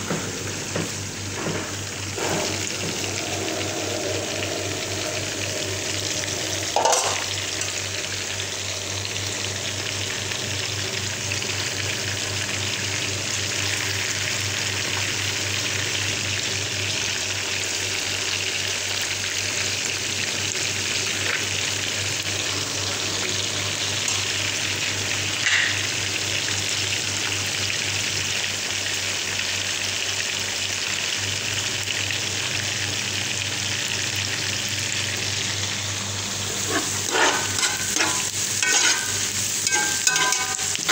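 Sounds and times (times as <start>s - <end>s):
fish deep-frying in oil: 0.1s - 40.9s.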